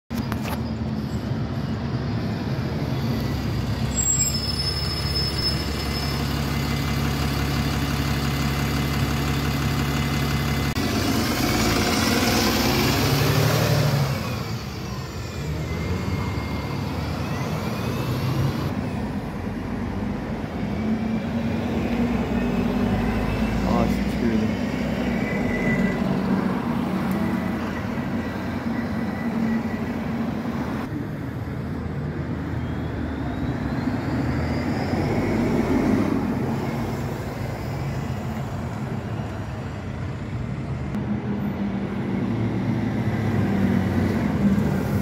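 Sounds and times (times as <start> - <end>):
bus engines in street traffic: 0.1 - 45.0
bus passing close by: 0.4 - 45.0.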